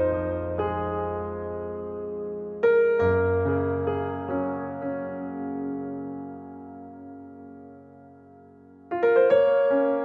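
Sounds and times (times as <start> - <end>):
soft piano notes: 0.0 - 10.0.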